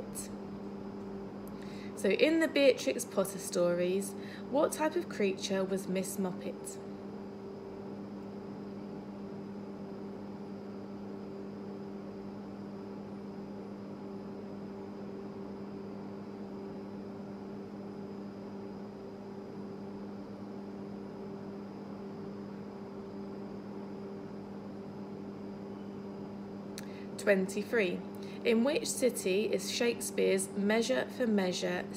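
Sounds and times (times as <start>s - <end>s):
faint high whine: 0.0s - 31.9s
machine hum: 0.0s - 31.9s.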